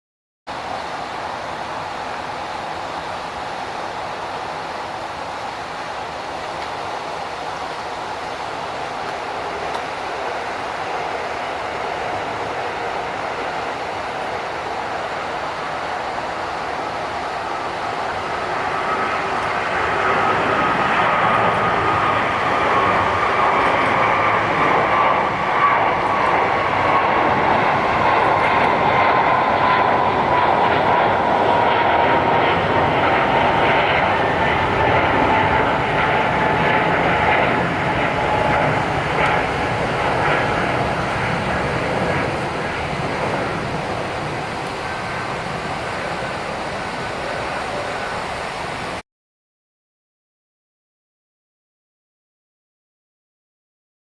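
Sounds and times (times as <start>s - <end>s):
jet engines passing close: 0.5s - 49.0s.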